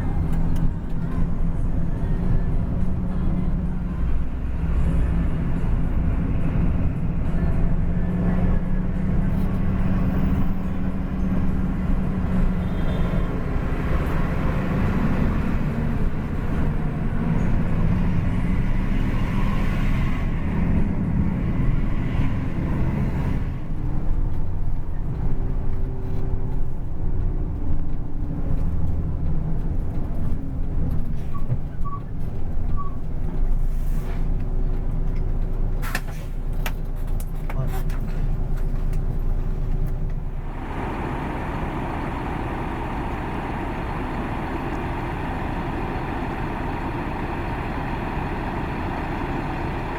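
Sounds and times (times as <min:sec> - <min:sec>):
bus engine: 0:00.0 - 0:49.9
road noise: 0:00.0 - 0:49.9.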